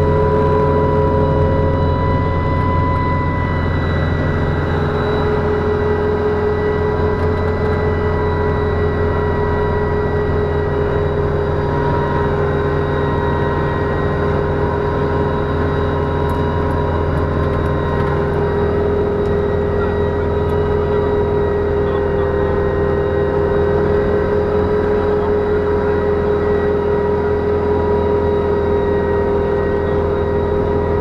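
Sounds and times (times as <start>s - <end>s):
engine cooling fan whine: 0.0s - 31.0s
helicopter drone: 0.0s - 31.0s.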